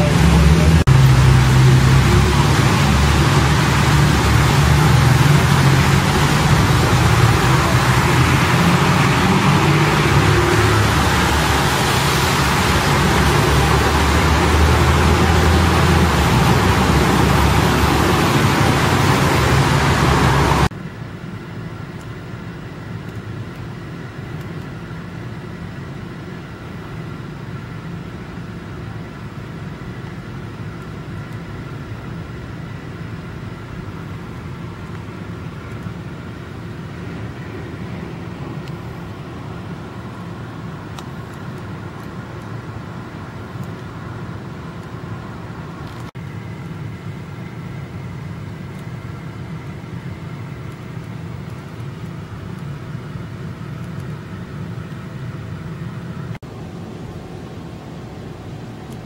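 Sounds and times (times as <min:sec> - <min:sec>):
distant traffic hum: 0:00.0 - 0:59.0.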